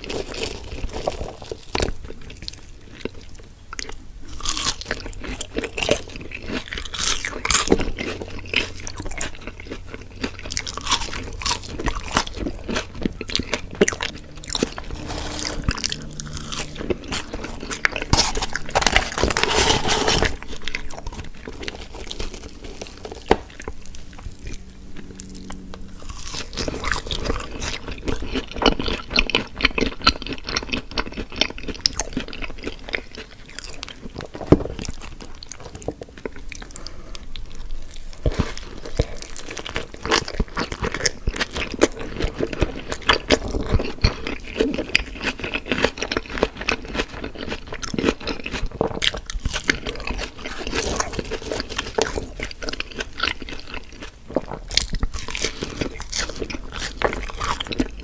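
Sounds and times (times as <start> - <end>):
person chewing and crunching food: 0.0 - 58.0.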